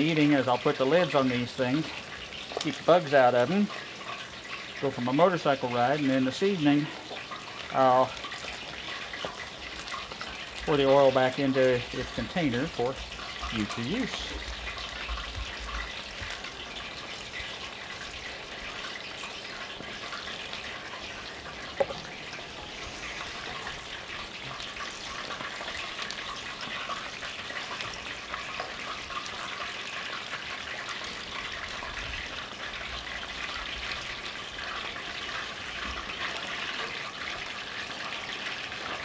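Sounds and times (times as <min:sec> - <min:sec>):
oil sizzling and crackling: 0:00.0 - 0:39.0.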